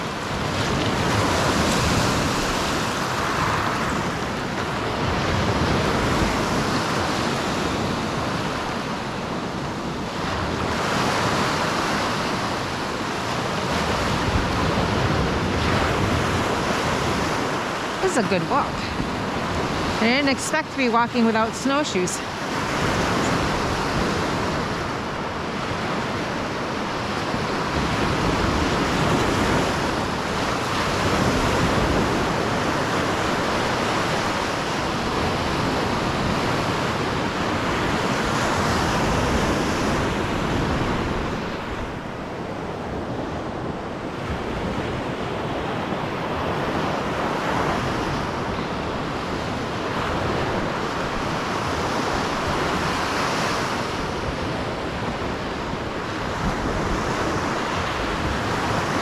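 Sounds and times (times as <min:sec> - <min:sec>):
waves washing onto shore: 0:00.0 - 0:59.0
wind buffeting microphone: 0:00.0 - 0:59.0.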